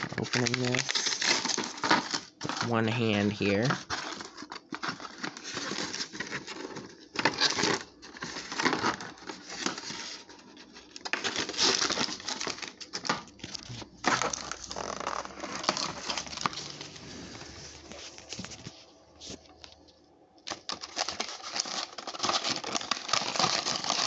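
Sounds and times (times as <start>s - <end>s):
toy packaging crinkling and tearing: 0.0s - 24.0s.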